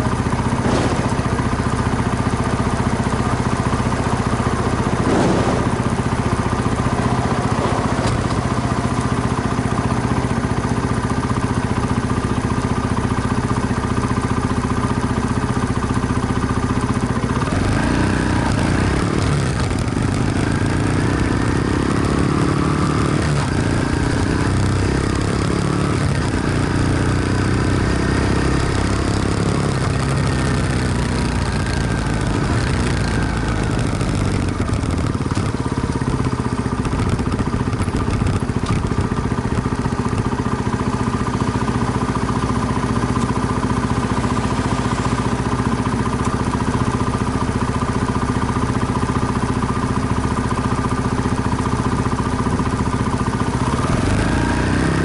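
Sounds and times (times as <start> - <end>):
small motorcycle engine running: 0.0 - 55.0.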